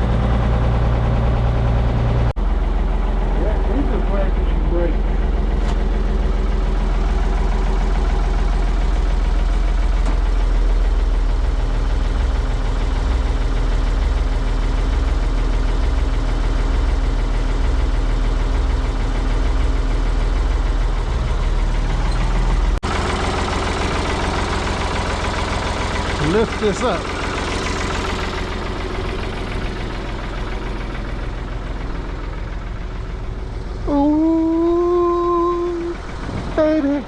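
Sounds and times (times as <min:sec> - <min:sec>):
backhoe loader engine running: 0:00.0 - 0:37.0.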